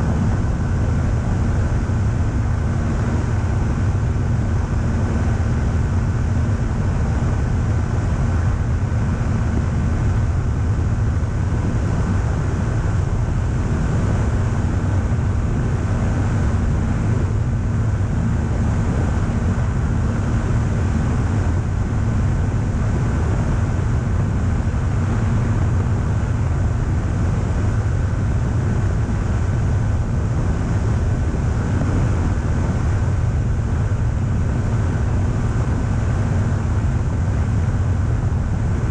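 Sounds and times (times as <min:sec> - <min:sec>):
aircraft engine and propeller humming: 0:00.0 - 0:38.9
wind noise on microphone: 0:00.0 - 0:38.9.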